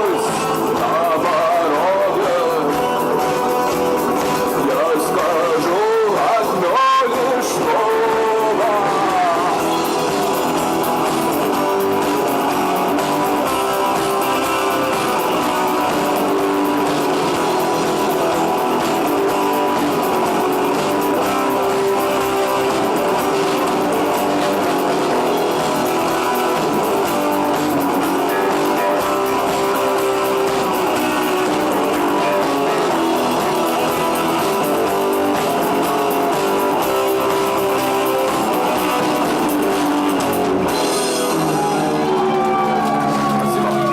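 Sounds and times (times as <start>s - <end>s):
bass guitar: 0.0s - 43.9s
strummed rock guitars: 0.0s - 43.9s.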